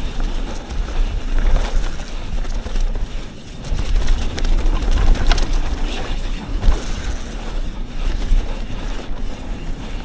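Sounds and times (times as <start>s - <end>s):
bike knocking and rattling: 0.0s - 10.0s
bike tyre noise: 0.0s - 10.0s
wind on microphone: 0.0s - 10.0s.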